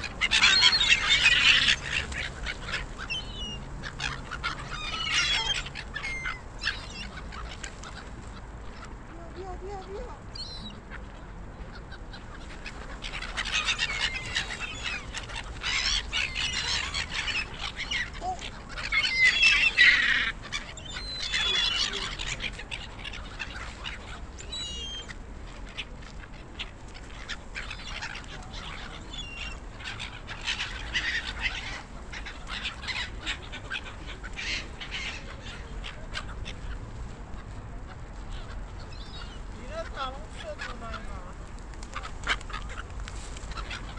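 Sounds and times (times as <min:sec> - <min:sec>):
gulls calling: 0:00.0 - 0:43.9.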